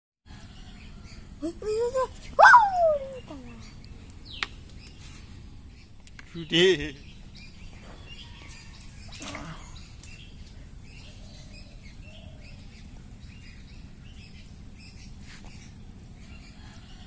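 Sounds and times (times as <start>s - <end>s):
small birds chirping: 0.3s - 17.0s
low background rumble: 0.4s - 17.0s.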